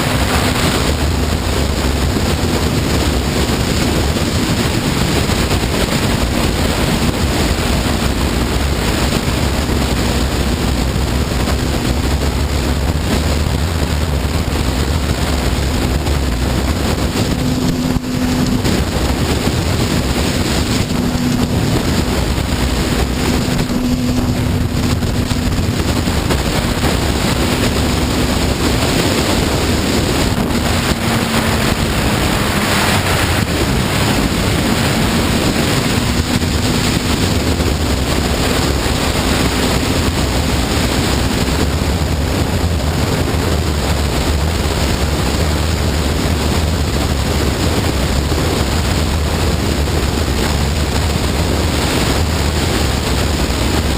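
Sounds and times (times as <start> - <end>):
motorcycle engine drone: 0.0 - 53.9
wind rushing over microphone: 0.0 - 53.9.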